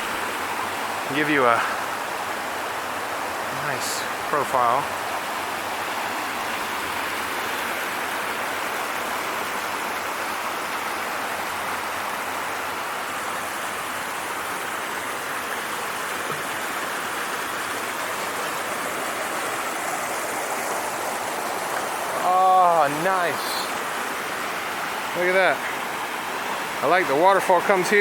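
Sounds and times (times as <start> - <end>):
creek water rushing over rocks: 0.0 - 28.0.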